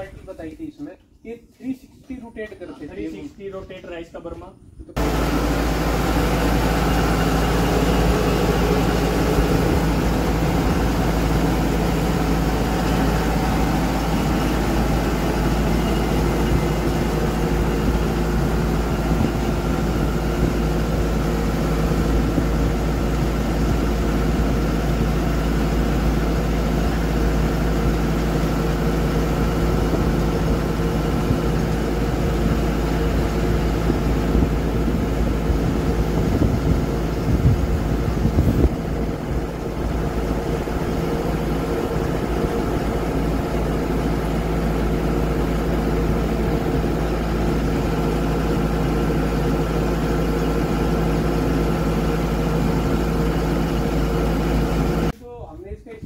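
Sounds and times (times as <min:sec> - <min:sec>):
harvester engine running: 0:05.0 - 0:55.2.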